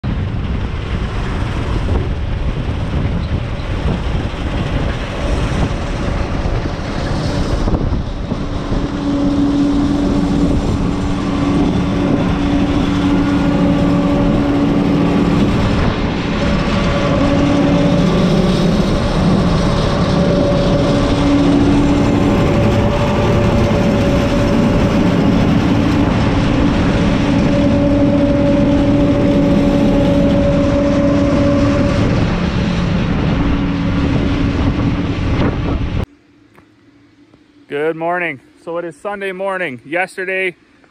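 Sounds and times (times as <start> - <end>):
combine harvester machinery din: 0.0 - 40.5.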